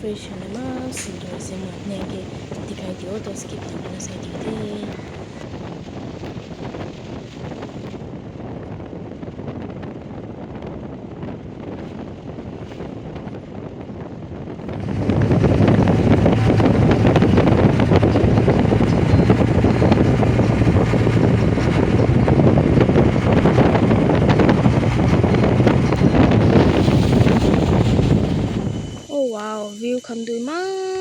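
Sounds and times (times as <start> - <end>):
engine and road noise drone: 0.0 - 8.2, 11.6 - 29.5
wind rushing over microphone: 0.0 - 31.0.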